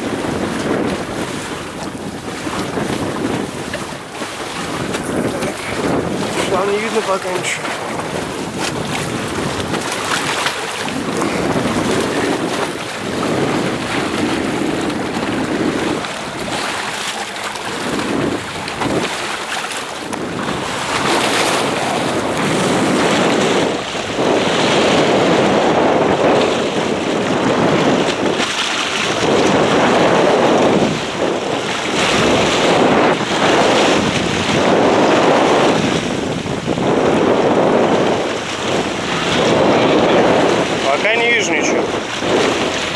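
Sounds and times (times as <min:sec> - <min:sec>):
waves splashing along boat hull: 0:00.0 - 0:42.9
wind noise on microphone: 0:00.0 - 0:42.9.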